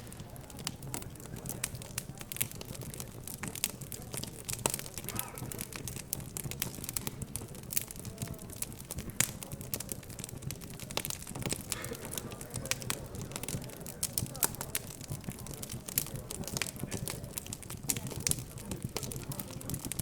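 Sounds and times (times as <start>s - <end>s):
indistinct background chatter: 0.0s - 20.0s
wood fire crackling and popping: 0.0s - 20.0s.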